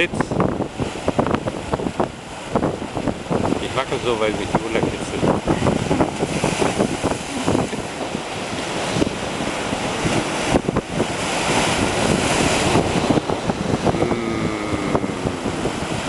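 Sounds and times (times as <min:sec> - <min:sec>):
sea waves breaking on rocks: 0:00.0 - 0:16.0
wind buffeting microphone: 0:00.0 - 0:16.0.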